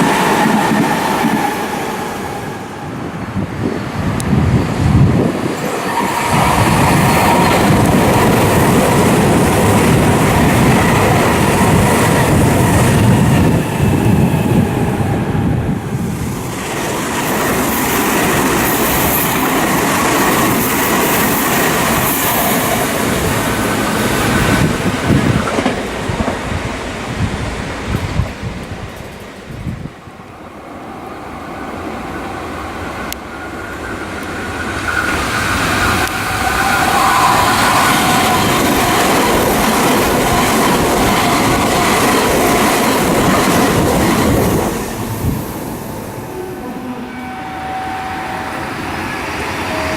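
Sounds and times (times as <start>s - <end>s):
electric train passing: 0.0s - 49.9s.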